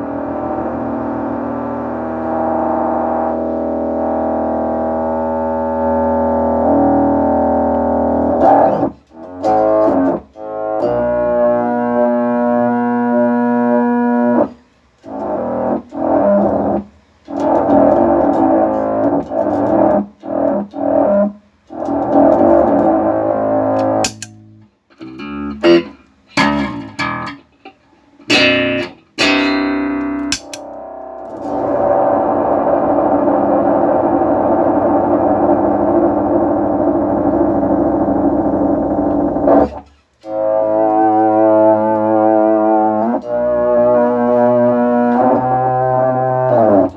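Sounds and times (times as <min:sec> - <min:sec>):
distorted synth notes: 0:00.0 - 0:27.6, 0:28.3 - 0:46.9.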